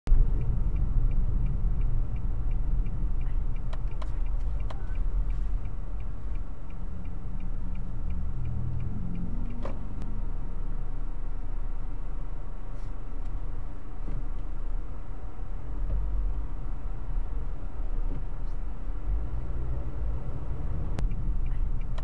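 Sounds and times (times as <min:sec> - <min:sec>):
car engine and road rumble: 0:00.1 - 0:22.0
turn signal ticking: 0:00.1 - 0:22.0.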